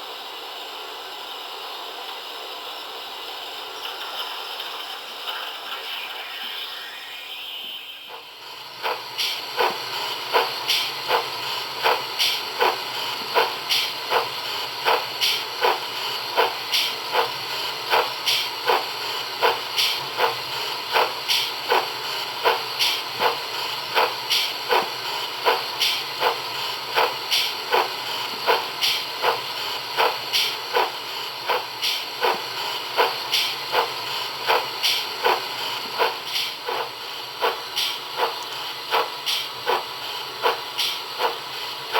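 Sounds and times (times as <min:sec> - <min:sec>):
recorded steam exhaust chuffs: 0:07.4 - 0:41.9.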